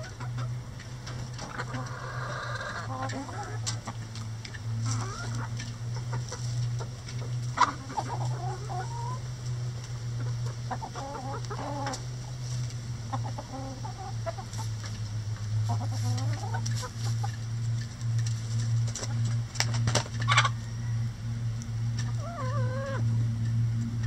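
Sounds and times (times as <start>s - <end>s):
hens clucking: 0.0s - 23.5s
steady low hum: 0.0s - 24.0s.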